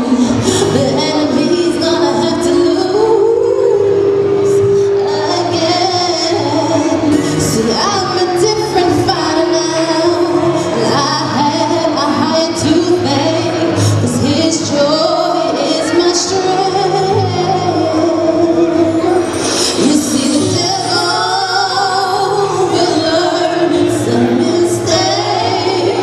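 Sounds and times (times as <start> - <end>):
lead female voice singing: 0.0 - 26.0
women's choir singing in harmony: 0.0 - 26.0.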